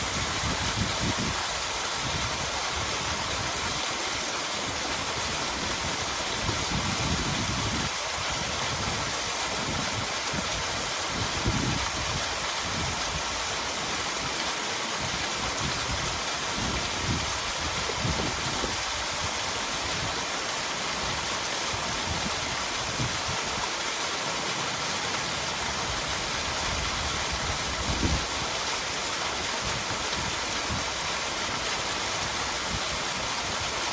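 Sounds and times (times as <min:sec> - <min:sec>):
small waterfall splashing: 0:00.0 - 0:33.9.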